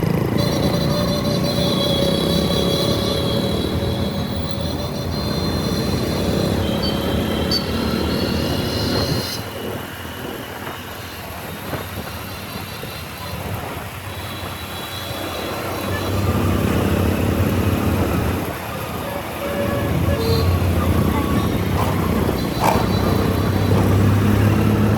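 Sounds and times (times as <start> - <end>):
motorcycle engine: 0.0 - 12.7, 15.0 - 24.9
road noise: 0.0 - 24.9.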